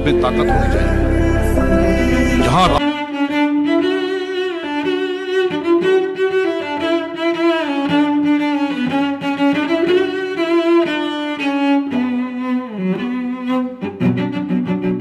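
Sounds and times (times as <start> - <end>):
bowed strings melody: 0.0 - 15.0.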